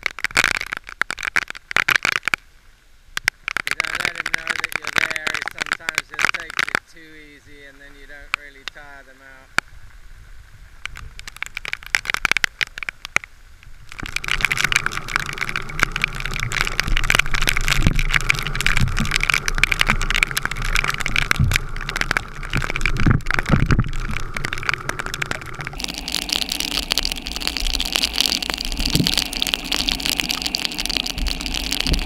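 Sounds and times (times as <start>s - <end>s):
heavy rain on water and boat: 0.0s - 6.9s, 7.8s - 32.0s.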